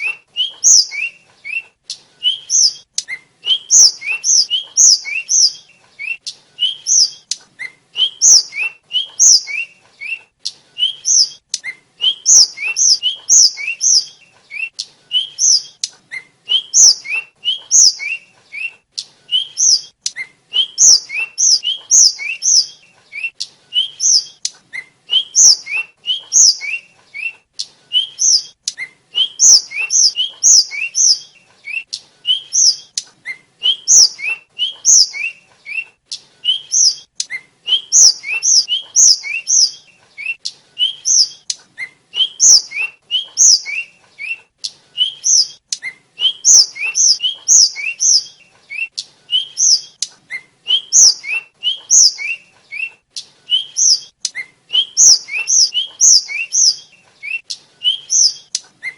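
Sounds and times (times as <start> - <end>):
flycatcher singing whistled notes: 0.0 - 44.4, 45.0 - 58.9.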